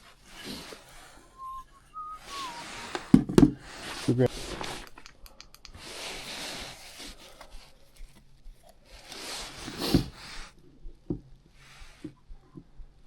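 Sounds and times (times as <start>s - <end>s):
parts rustling and rubbing: 0.0s - 12.2s.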